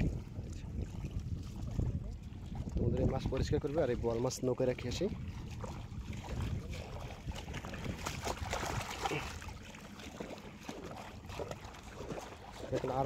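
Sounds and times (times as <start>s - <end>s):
splashing steps in water: 0.0s - 13.0s
wind rumble on microphone: 0.0s - 13.0s.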